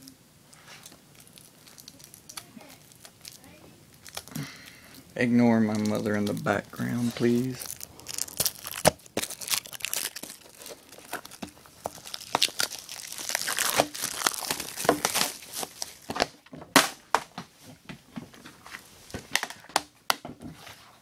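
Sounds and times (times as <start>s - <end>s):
plastic wrap crinkling and tearing: 0.0s - 17.0s.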